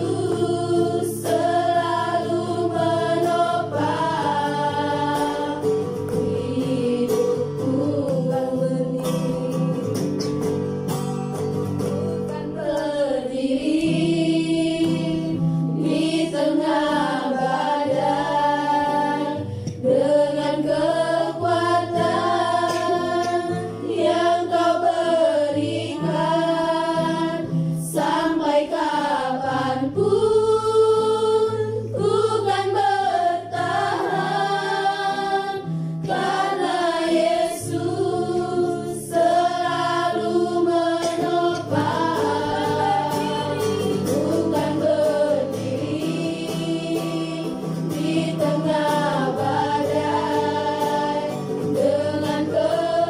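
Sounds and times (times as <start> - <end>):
women singing in unison: 0.0 - 10.2, 12.3 - 53.0
strummed acoustic guitar: 0.0 - 13.1, 13.7 - 53.0.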